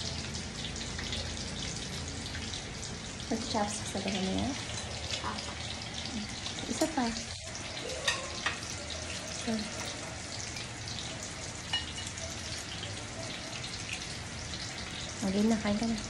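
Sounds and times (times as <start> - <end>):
oil sizzling: 0.0 - 16.0.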